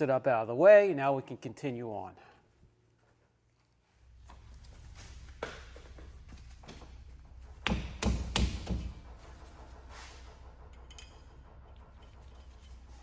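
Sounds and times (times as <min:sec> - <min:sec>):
low steady hum: 0:02.4 - 0:13.0.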